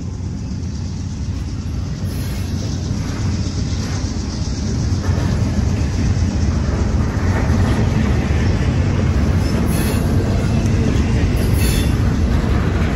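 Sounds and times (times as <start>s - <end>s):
freight train rumbling on rails: 0.0s - 12.9s.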